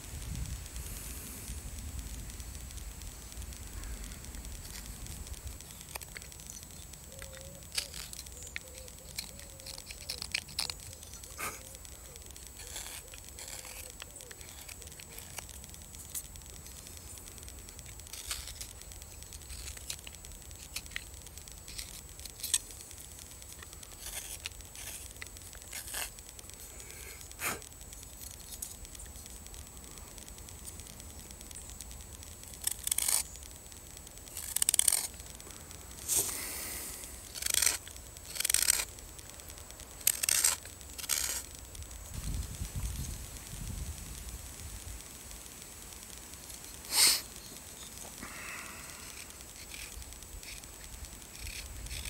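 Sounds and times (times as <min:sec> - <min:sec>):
knife carving wood: 0:01.4 - 0:42.0, 0:48.9 - 0:52.0.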